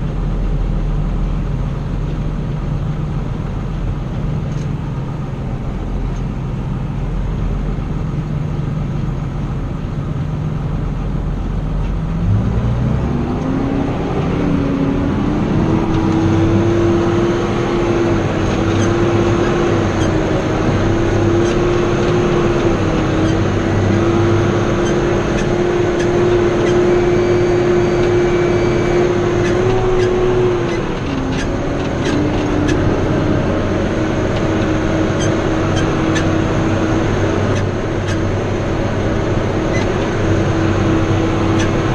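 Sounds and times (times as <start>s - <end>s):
vehicle engine revving: 0.0s - 41.9s.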